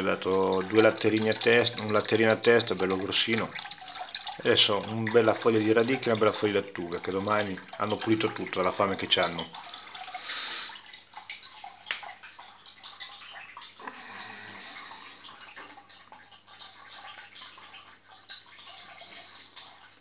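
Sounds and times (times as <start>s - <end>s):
water splashing in plastic tub: 0.0s - 20.0s.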